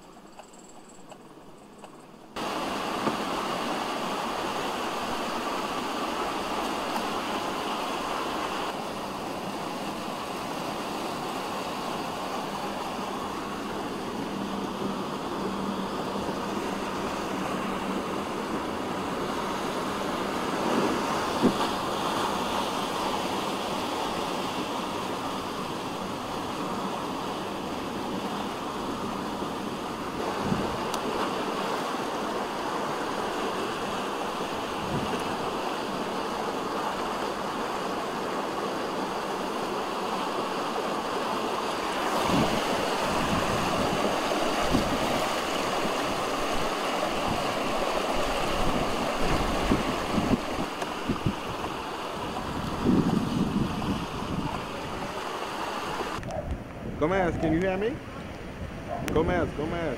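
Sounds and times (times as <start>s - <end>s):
floodwater rushing and sloshing: 1.1s - 59.9s.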